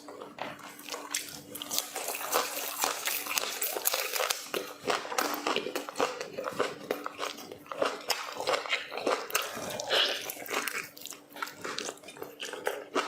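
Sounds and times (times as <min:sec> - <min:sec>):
wet chewing and mouth smacking: 0:00.0 - 0:13.0.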